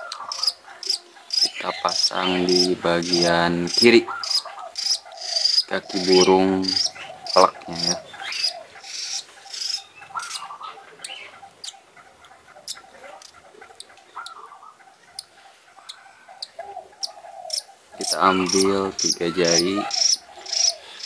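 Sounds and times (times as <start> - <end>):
budgerigar chick chirping: 0.0 - 21.0.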